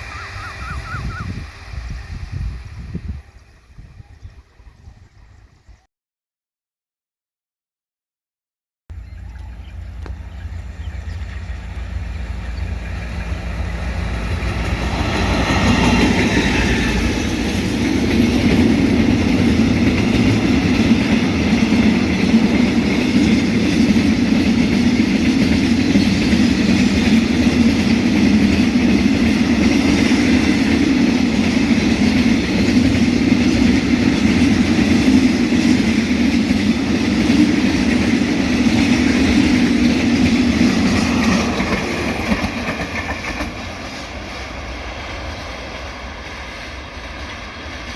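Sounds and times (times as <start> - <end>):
train wheels rumbling on rails: 8.9 - 47.9.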